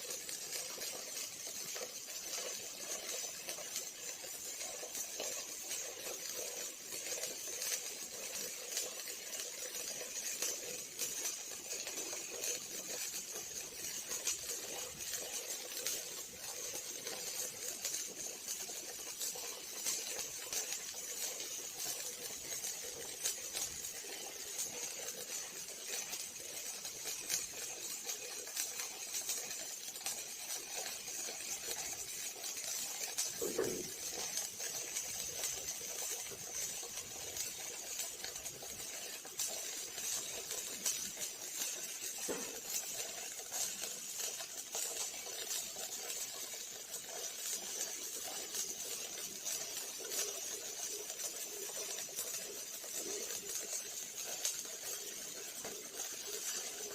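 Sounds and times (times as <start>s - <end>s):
welding arc crackling: 0.0s - 56.8s.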